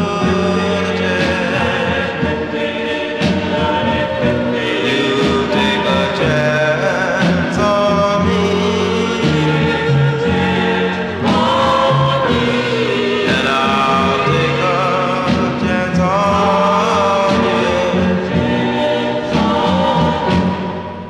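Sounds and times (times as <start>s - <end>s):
band backing: 0.0s - 21.0s
vocal group singing in harmony: 0.0s - 21.0s.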